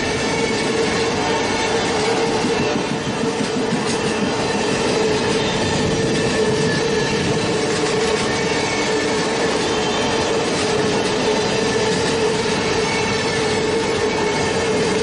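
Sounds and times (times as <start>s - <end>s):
high-speed train running: 0.0s - 15.0s.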